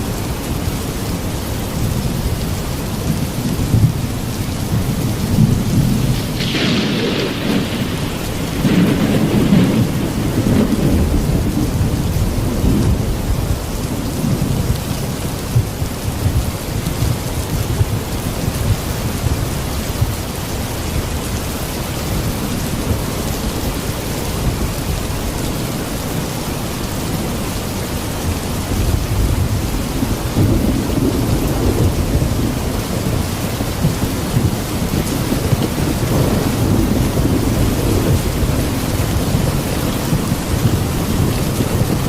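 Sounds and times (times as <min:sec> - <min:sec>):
steady rainfall: 0:00.0 - 0:42.0
low rumble of thunder: 0:00.1 - 0:42.0.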